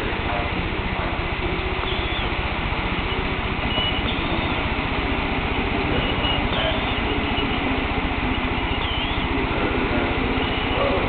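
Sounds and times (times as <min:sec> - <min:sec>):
model train rattling and clicking: 0:00.0 - 0:11.0.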